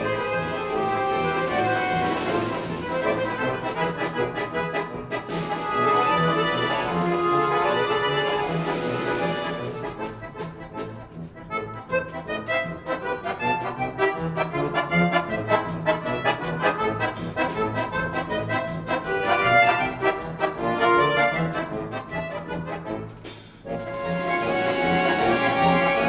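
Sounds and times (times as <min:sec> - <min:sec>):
accordion orchestra playing dance music: 0:00.0 - 0:26.0.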